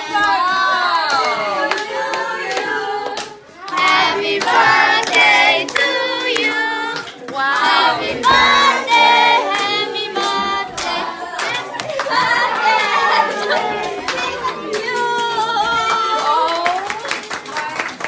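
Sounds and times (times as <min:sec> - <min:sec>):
group of voices singing: 0:00.0 - 0:16.4
hand claps: 0:00.0 - 0:18.0.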